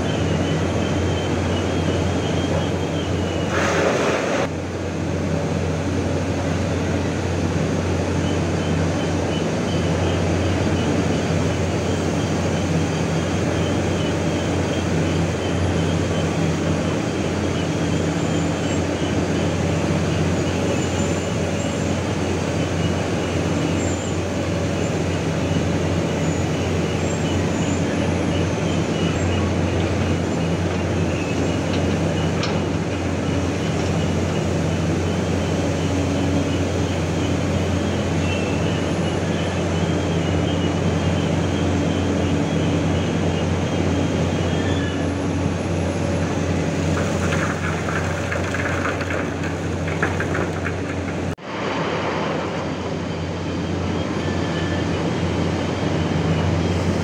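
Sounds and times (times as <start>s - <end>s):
heavy diesel machinery droning: 0.0s - 57.0s.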